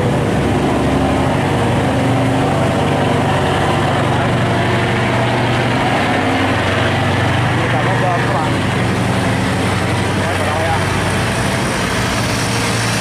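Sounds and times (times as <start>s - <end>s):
boat engine running: 0.0s - 13.0s
water wash: 0.0s - 13.0s.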